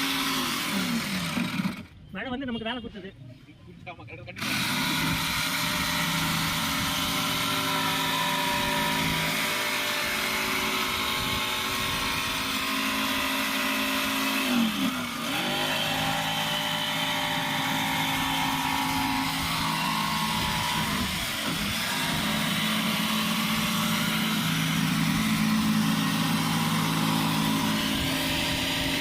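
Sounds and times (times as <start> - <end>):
jigsaw cutting plywood: 0.0 - 1.9, 4.4 - 29.0.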